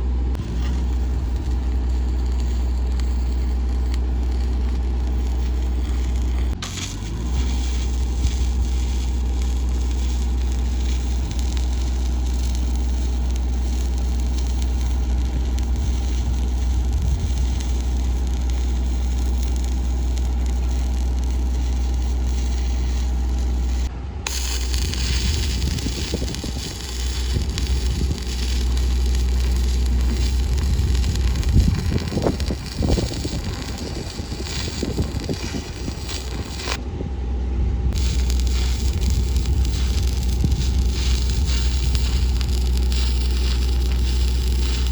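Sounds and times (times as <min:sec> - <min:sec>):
welding machine low drone: 0:00.0 - 0:44.9
welding arc crackling and hissing: 0:00.3 - 0:36.8, 0:37.9 - 0:44.9.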